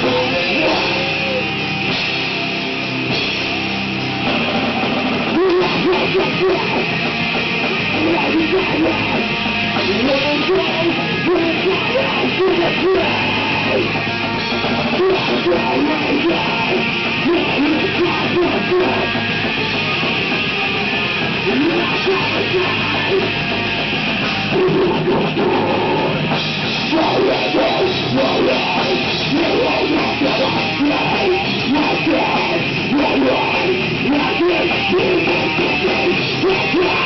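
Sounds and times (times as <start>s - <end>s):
drum kit: 0.0s - 37.0s
live rock band playing: 0.0s - 37.0s
repeating guitar riff: 0.0s - 37.0s.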